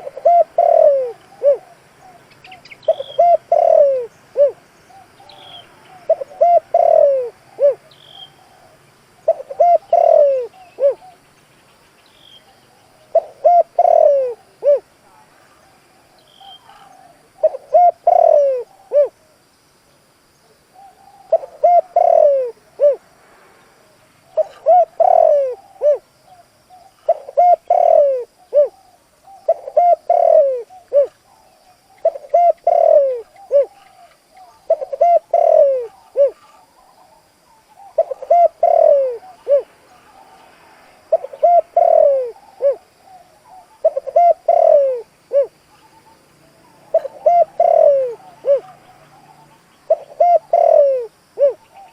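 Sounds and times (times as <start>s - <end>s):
dove cooing: 0.0s - 11.2s, 12.4s - 19.3s, 20.7s - 23.0s, 24.3s - 40.4s, 41.1s - 51.9s.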